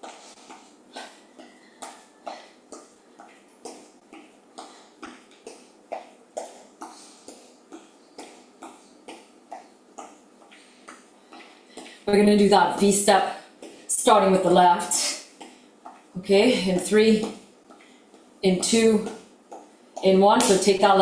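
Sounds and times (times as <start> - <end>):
footsteps marching on a floor: 0.0 - 14.0, 14.9 - 21.0.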